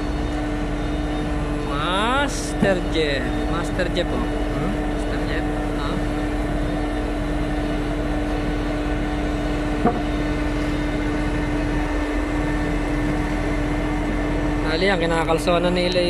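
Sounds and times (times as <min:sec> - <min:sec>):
crane engine humming: 0:00.0 - 0:16.0.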